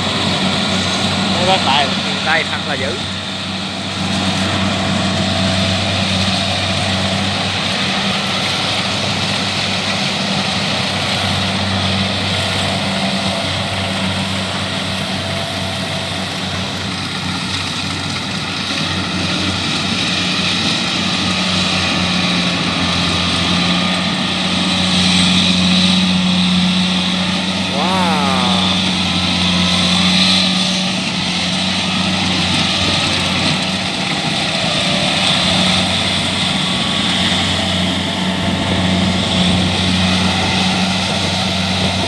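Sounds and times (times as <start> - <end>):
combine harvester diesel engine drone: 0.0 - 42.0.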